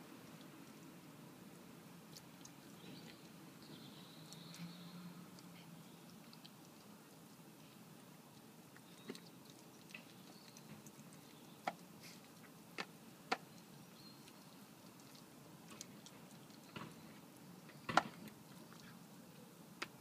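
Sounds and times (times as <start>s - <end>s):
fox chewing food: 2.0s - 20.0s.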